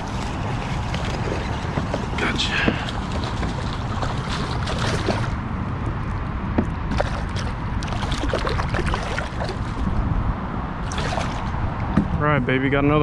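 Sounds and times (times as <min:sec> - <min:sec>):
water splashing and trickling: 0:00.0 - 0:11.9
steady low rumble: 0:00.0 - 0:13.0.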